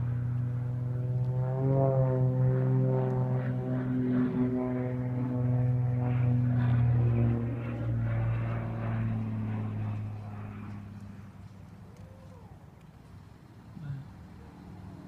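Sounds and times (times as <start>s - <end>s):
propeller airplane engine drone: 0.0s - 15.0s.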